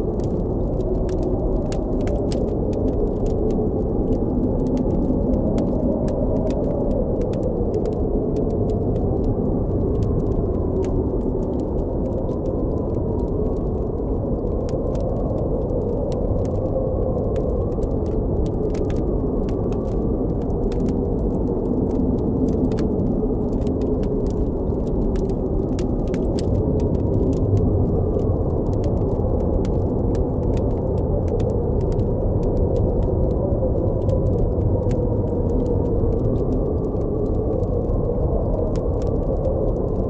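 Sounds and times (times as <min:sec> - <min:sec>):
blizzard wind howling: 0:00.0 - 0:40.0
campfire crackling and popping: 0:00.0 - 0:40.0.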